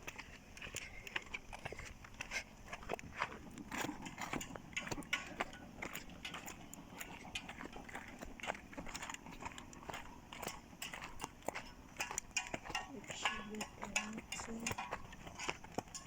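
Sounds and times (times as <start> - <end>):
footsteps crunching on dirt: 0.0 - 16.0.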